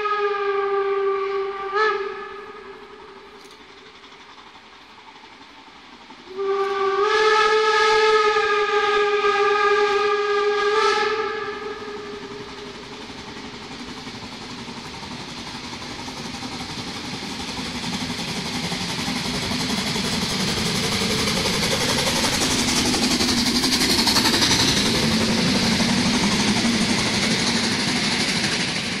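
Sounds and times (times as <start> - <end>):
steam locomotive passing: 0.0 - 29.0.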